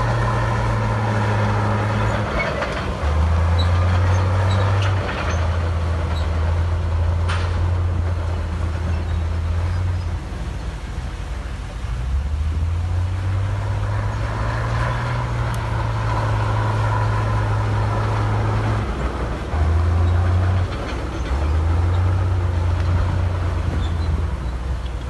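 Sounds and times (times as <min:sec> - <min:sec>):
heavy diesel engine under load: 0:00.0 - 0:25.0.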